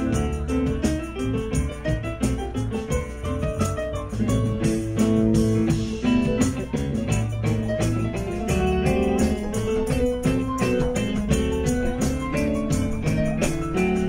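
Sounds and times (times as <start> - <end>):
bass line: 0.0 - 14.0
guitar: 0.0 - 14.0
keyboards: 0.0 - 14.0
steady drum beat: 0.0 - 14.0.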